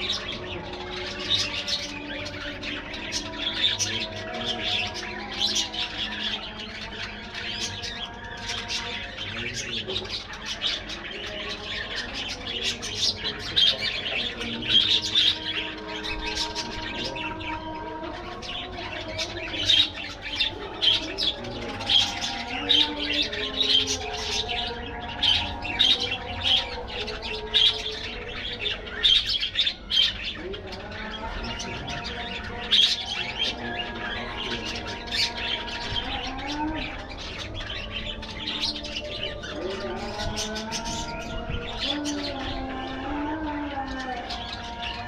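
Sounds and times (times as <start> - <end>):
budgerigars chattering and chirping: 0.0 - 45.0.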